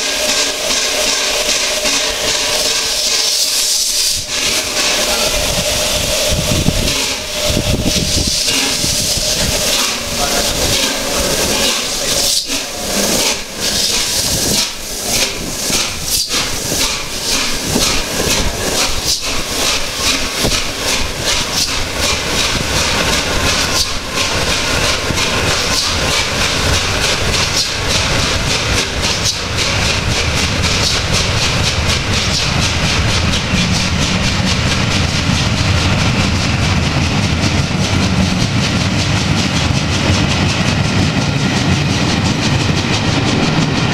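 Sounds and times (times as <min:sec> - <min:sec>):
steam hissing: 0:00.0 - 0:43.9
steam locomotive exhaust beats: 0:00.0 - 0:43.9
train coaches rumbling past: 0:00.0 - 0:43.9.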